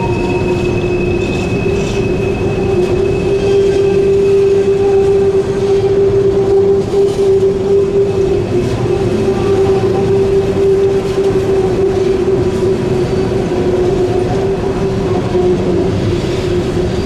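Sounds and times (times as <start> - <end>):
high-pitched wheel squeal: 0.0 - 17.0
train cars rumbling: 0.0 - 17.0.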